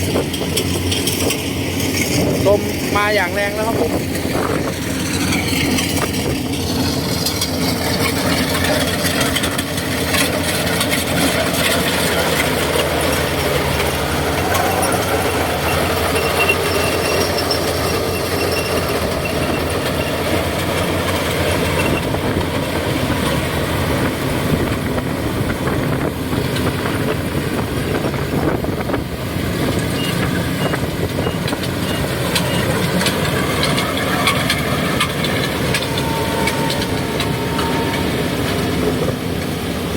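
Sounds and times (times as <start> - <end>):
combine harvester running: 0.0 - 39.9
gusting wind: 0.0 - 39.9.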